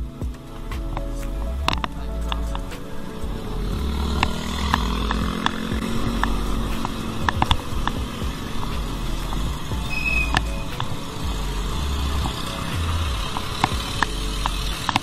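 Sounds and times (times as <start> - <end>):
vehicle engine passing: 0.5 - 15.0.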